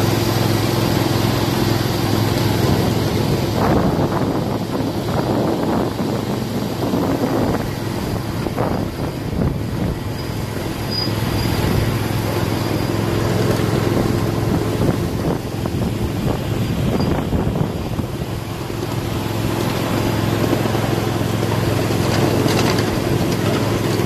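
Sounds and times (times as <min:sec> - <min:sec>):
miniature train running hum: 0:00.0 - 0:24.0.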